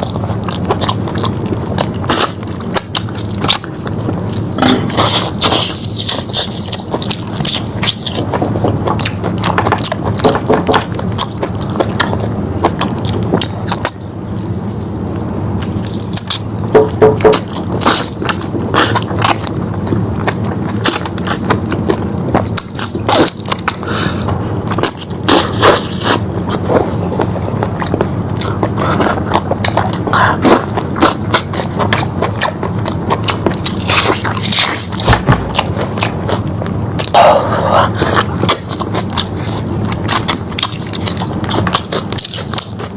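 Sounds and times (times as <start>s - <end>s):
chewing and biting meat: 0.0s - 42.9s
low hum: 0.0s - 42.9s.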